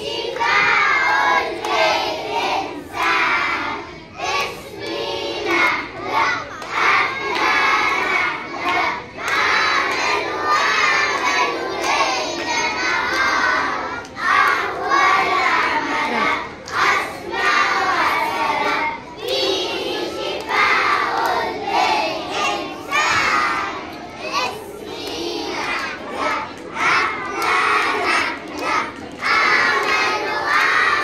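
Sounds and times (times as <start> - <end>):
children singing loudly: 0.0 - 31.0.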